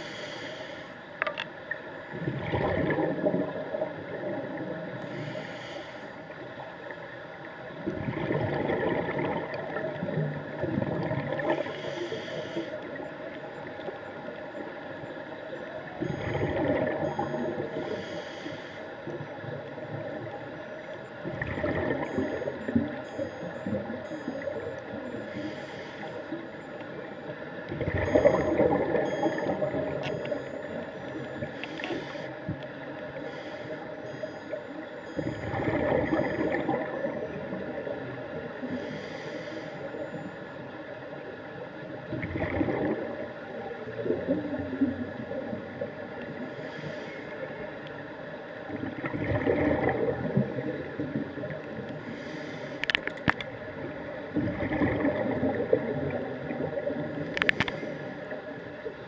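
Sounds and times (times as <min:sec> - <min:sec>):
steady underwater hiss: 0:00.0 - 0:59.0
underwater exhaled air bubbling: 0:02.0 - 0:05.7, 0:07.7 - 0:15.2, 0:15.8 - 0:40.3, 0:41.8 - 0:59.0.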